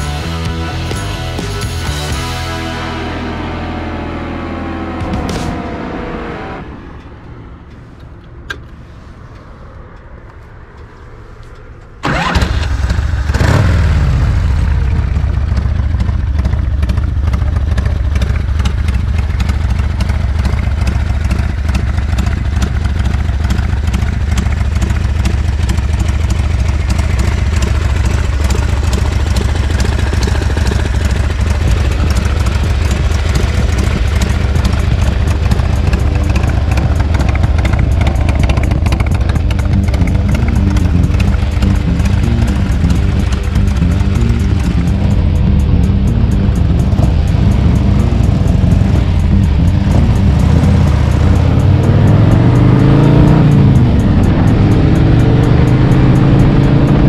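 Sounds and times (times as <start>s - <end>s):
motorcycle engine starting and idling: 0.0s - 8.7s, 10.3s - 57.0s.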